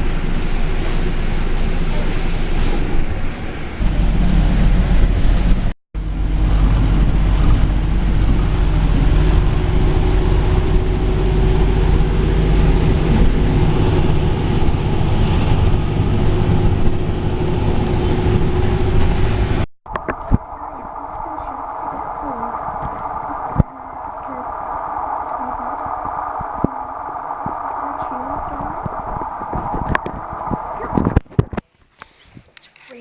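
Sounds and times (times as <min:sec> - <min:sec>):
bus engine droning: 0:00.0 - 0:31.3
road noise: 0:00.0 - 0:31.6.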